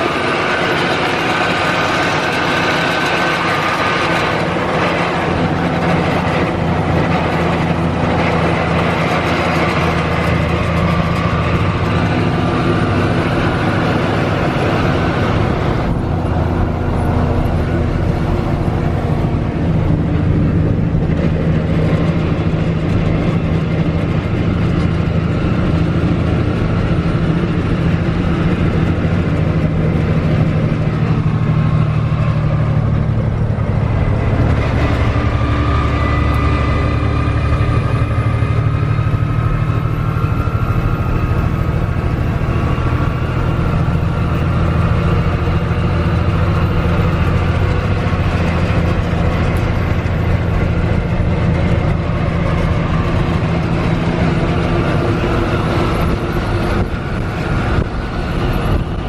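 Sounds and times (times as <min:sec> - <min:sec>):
road noise: 0:00.0 - 0:59.0
truck diesel engine running: 0:00.0 - 0:59.0.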